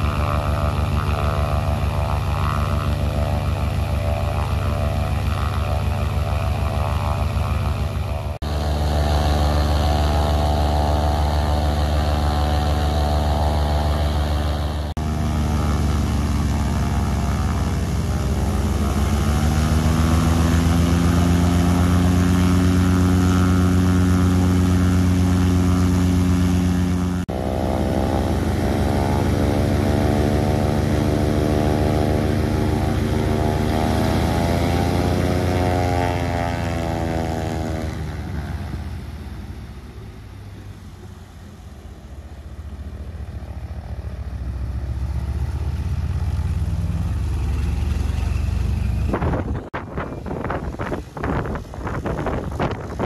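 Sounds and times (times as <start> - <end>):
radial aircraft engine running: 0.0 - 53.0.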